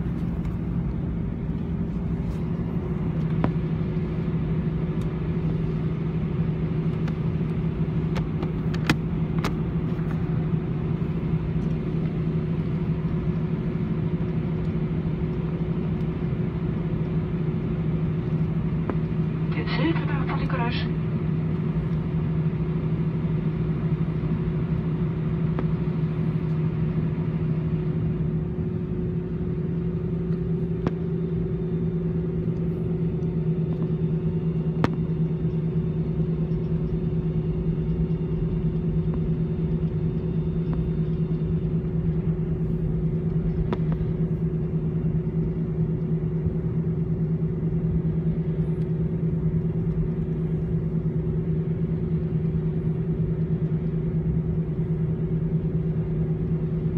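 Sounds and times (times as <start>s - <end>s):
jet engine drone in cabin: 0.0s - 56.9s.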